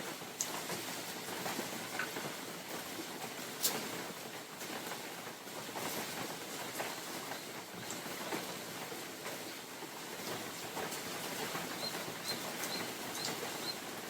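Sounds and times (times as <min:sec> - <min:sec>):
rain on leaves: 0:00.0 - 0:14.0.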